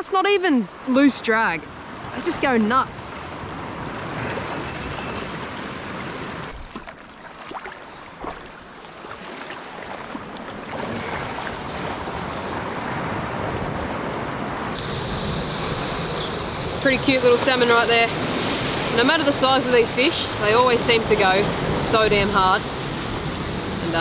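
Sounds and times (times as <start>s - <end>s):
water lapping at shoreline: 0.0s - 24.0s.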